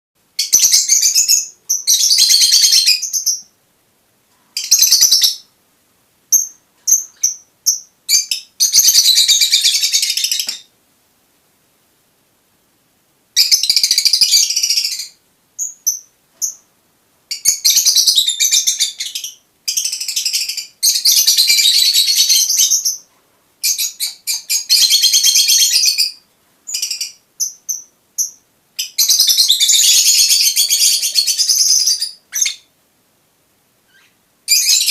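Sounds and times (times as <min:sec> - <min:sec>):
lovebird chirping: 0:00.4 - 0:03.6, 0:04.6 - 0:05.6, 0:06.3 - 0:10.7, 0:13.4 - 0:16.7, 0:17.3 - 0:32.7, 0:33.9 - 0:34.9.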